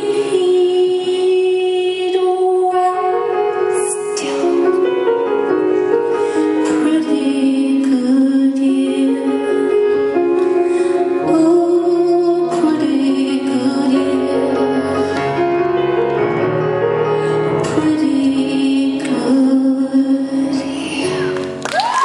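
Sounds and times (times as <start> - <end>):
grand piano chords: 0.0 - 22.0.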